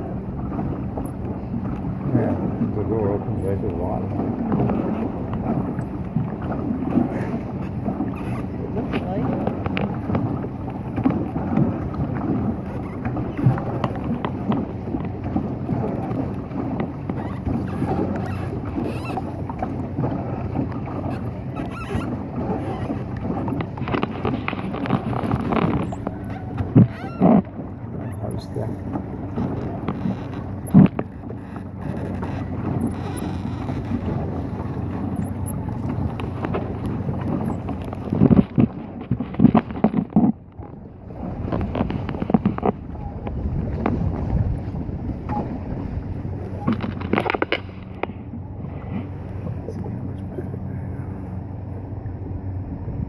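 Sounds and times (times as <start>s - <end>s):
water splashing and lapping: 0.0s - 53.0s
wind rumbling on microphone: 0.0s - 53.0s.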